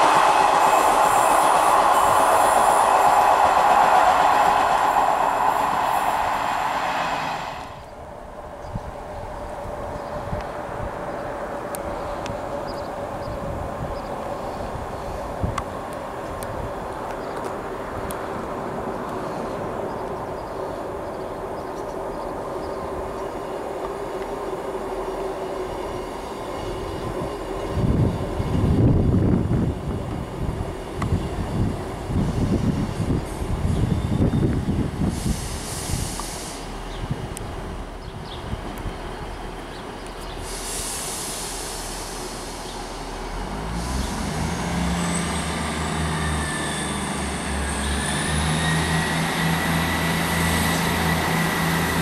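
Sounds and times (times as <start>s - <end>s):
diesel train engine and wheels: 0.0s - 52.0s.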